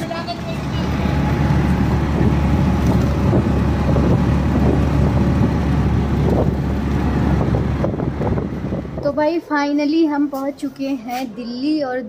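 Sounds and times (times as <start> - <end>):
wind buffeting microphone: 0.0 - 10.2
small engine rumbling: 0.0 - 12.0.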